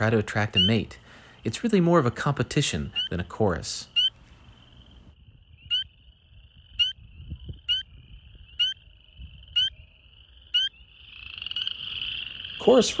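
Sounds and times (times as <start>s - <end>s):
background frogs calling: 0.0s - 13.0s
frog peeping: 0.0s - 13.0s.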